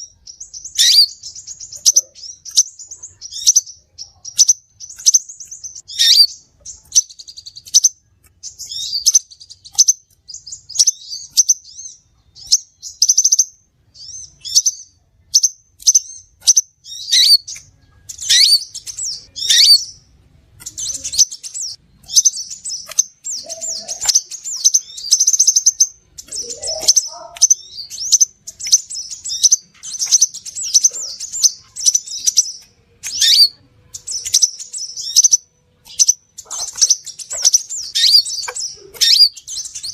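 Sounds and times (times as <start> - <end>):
bird chirps and buzzy trills: 0.0 - 39.9.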